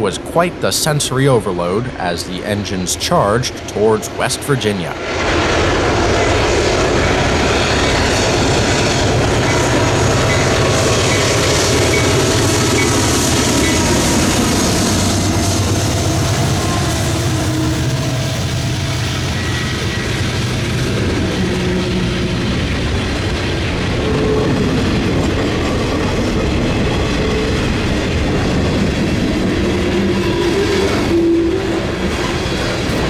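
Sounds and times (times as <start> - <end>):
diesel locomotive engines working: 0.0 - 33.0
train wheels clacking on rails: 4.8 - 33.0.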